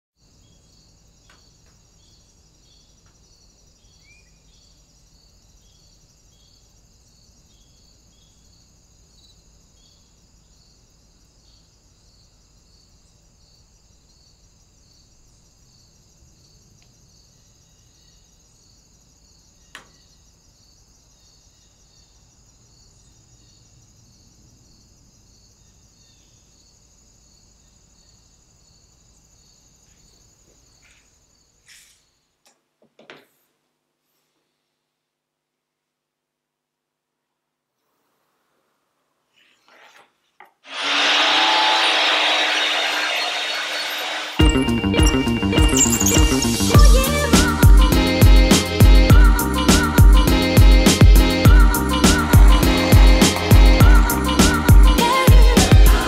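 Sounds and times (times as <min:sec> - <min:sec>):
crickets and insects chirping: 0:00.2 - 0:32.2, 0:40.9 - 0:55.6.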